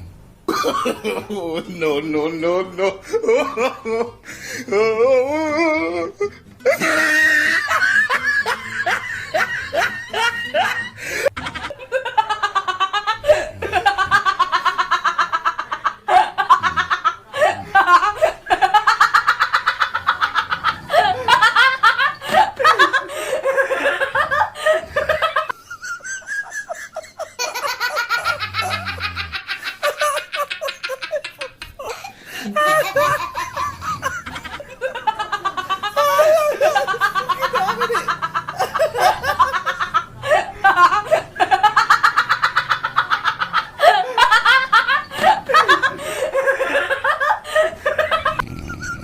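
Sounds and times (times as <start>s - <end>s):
high rising laugh bursts: 5.3s - 49.0s
rapid giggling: 5.3s - 49.0s.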